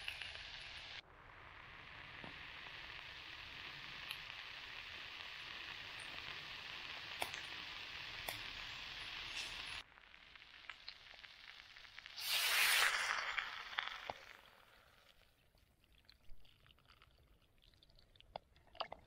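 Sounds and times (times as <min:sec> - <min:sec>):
food sizzling in a pan: 0:00.0 - 0:15.6.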